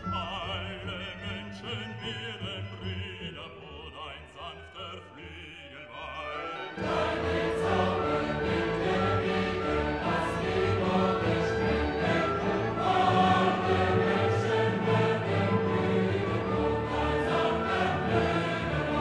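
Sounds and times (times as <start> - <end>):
classical singing with vibrato: 0.0 - 19.0.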